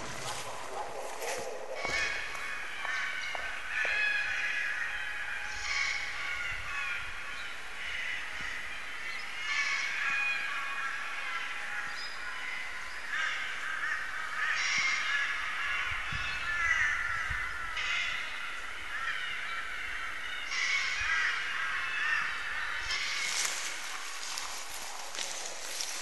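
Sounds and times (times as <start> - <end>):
chorus of birds calling: 0.0 - 26.0.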